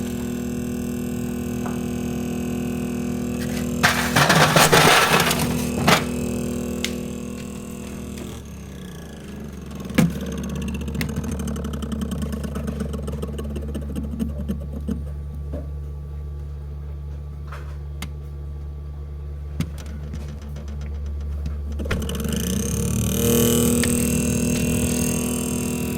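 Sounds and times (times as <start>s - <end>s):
freezer fan rattling hum: 0.0s - 25.9s.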